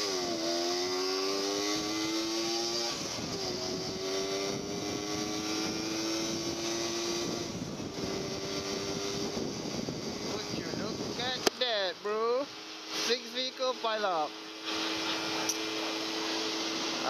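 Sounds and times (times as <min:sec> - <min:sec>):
motorcycle engine accelerating: 0:00.0 - 0:17.0
wind and road rush: 0:00.0 - 0:17.0.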